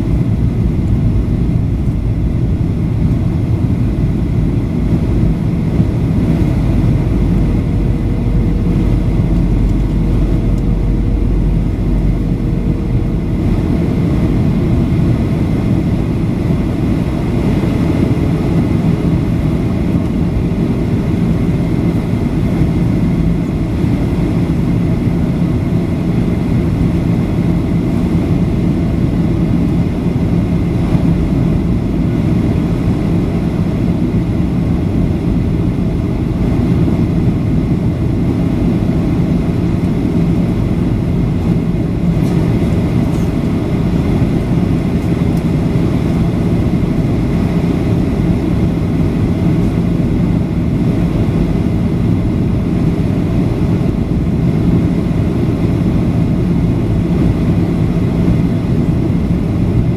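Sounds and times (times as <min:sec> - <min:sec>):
rushing air: 0:00.0 - 0:33.2, 0:34.3 - 0:59.9
jet engine cabin rumble: 0:00.0 - 0:59.9
low hum: 0:00.0 - 0:59.9.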